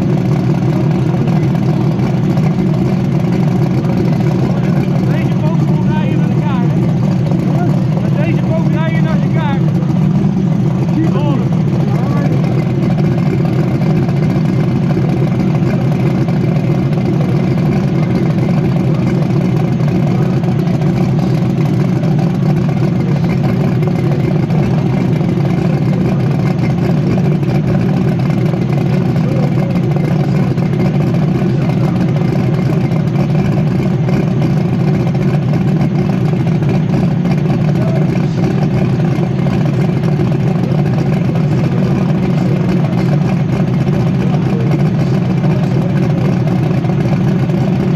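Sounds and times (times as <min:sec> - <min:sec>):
engine running steadily: 0:00.0 - 0:47.9.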